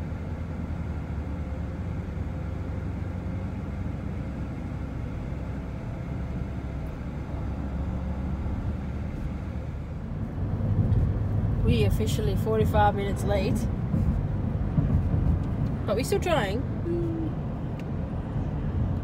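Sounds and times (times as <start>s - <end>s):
car cabin road rumble: 0.0s - 19.0s.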